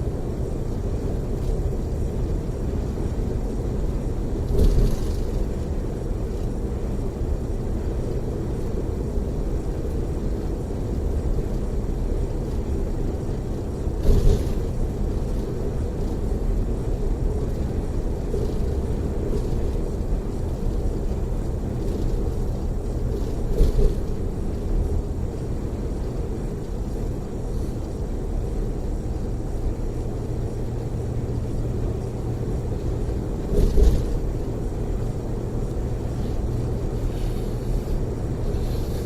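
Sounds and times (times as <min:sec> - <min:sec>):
coach road and engine rumble: 0:00.0 - 0:39.0.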